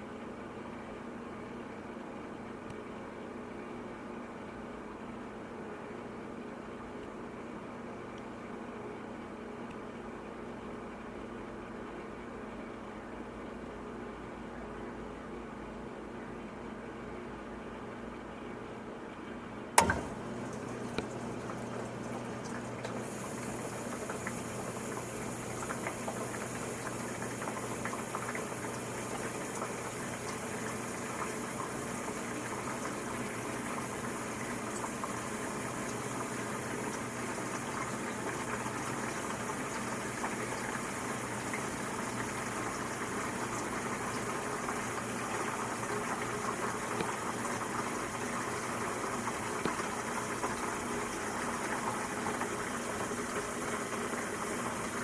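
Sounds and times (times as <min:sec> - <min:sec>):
dishwasher motor hum: 0:00.0 - 0:55.0.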